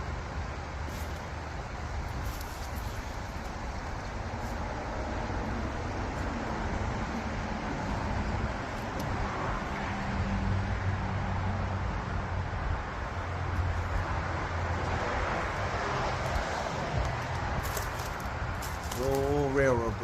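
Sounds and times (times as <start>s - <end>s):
tyre and road noise: 0.0s - 20.0s
vehicle engine low hum: 0.0s - 20.0s.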